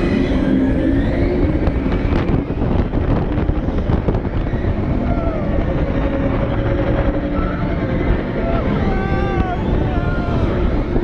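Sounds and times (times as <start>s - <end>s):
roller coaster racing on track: 0.0s - 11.0s
wind rushing over microphone: 0.0s - 11.0s.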